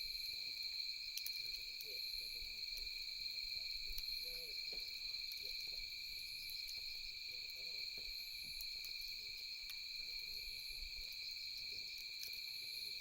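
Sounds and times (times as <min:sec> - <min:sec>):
campfire crackling: 0:00.0 - 0:13.0
insects chirping: 0:00.0 - 0:13.0.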